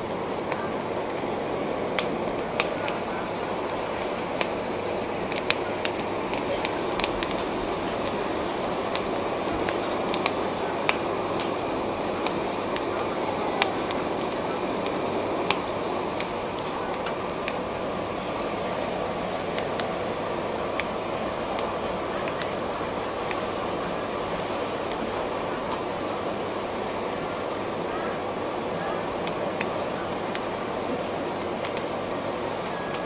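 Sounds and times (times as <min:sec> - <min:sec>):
crackles and pops of grilling shells: 0:00.0 - 0:33.0
gas torches hissing: 0:00.0 - 0:33.0.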